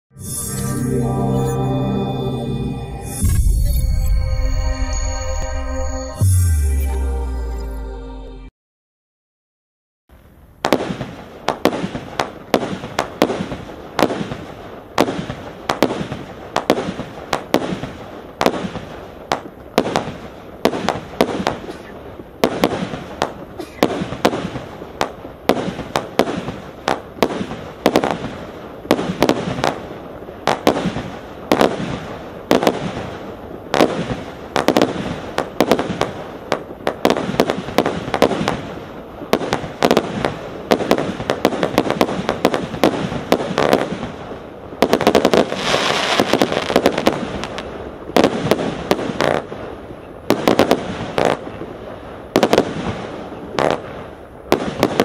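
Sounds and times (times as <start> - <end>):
firework barrage: 0.2 - 7.1, 10.5 - 55.0.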